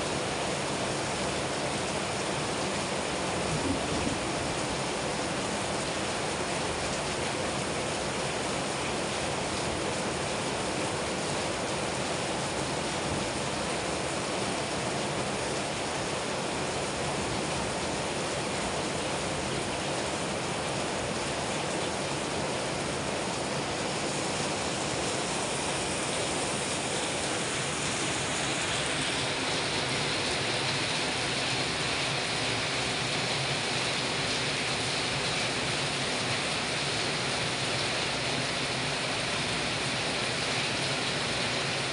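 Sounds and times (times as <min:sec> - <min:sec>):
rain on vegetation: 0:00.0 - 0:41.9.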